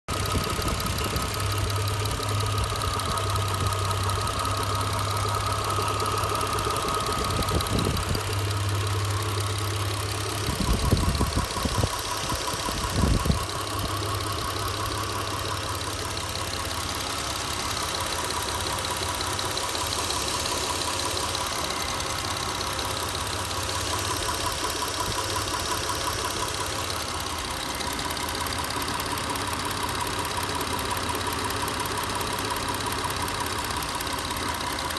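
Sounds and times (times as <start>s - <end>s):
engine idling: 0.1s - 34.9s
engine knocking: 0.1s - 34.9s.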